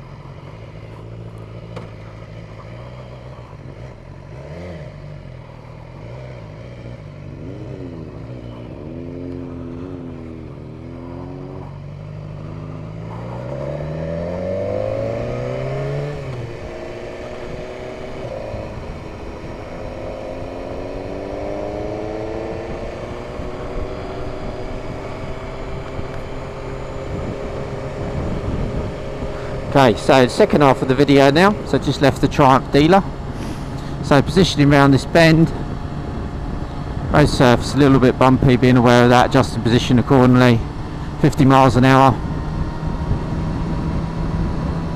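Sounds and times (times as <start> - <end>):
motorcycle engine accelerating: 0.0 - 44.9
wind and road noise: 0.0 - 44.9.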